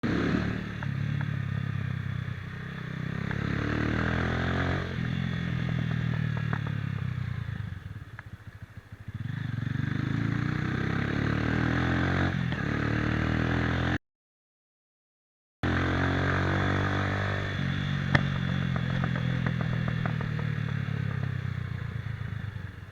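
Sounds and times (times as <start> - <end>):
motorcycle engine revving: 0.0 - 14.0, 15.6 - 22.9.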